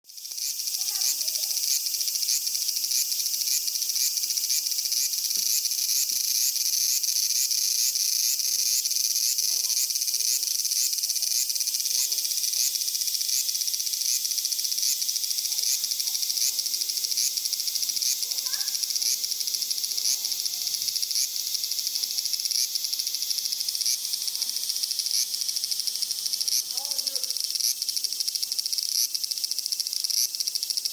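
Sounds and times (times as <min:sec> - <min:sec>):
cicadas buzzing: 0:00.1 - 0:30.9.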